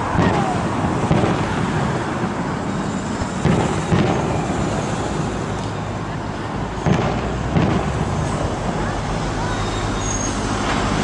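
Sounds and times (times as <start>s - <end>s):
distant firework bangs: 0.0s - 5.8s, 6.7s - 9.8s.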